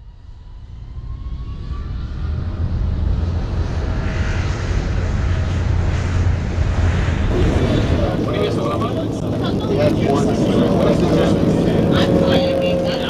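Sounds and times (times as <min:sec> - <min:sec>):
low engine rumble: 0:00.5 - 0:13.0.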